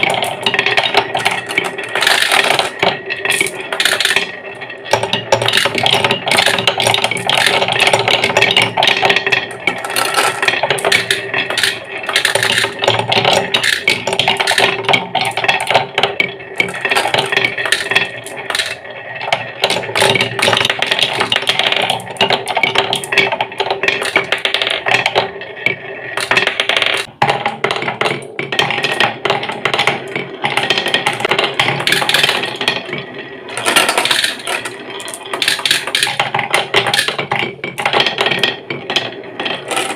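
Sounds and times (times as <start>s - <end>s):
marbles rolling down wooden run: 0.0s - 39.9s.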